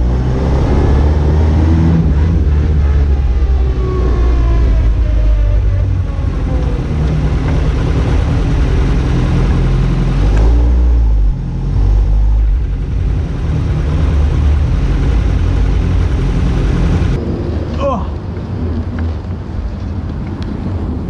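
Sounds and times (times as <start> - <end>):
car engine running at low speed: 0.0 - 21.0.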